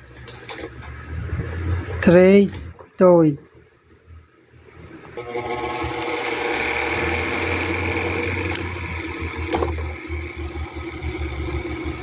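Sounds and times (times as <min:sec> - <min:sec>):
electric fan buzzing: 0:00.0 - 0:12.0.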